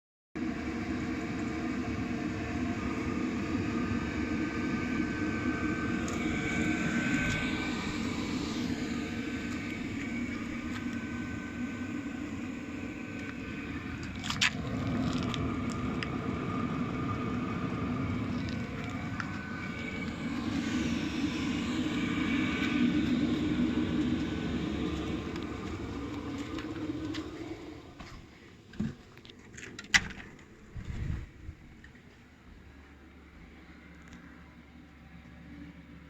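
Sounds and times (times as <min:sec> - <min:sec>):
air heater blower drone: 0:00.4 - 0:36.0.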